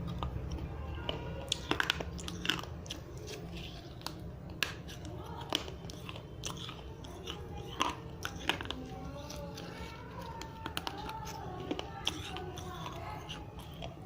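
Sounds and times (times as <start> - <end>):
clay being chewed and crunched: 0.0 - 14.0.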